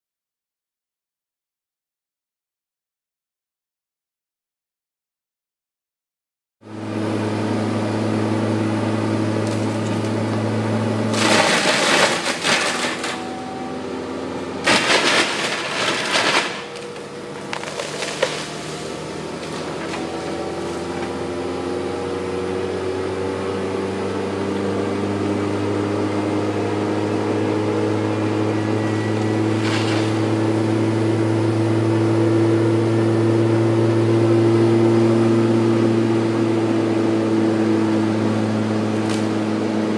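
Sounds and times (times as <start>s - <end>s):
hydraulic machine hum: 6.6s - 39.9s.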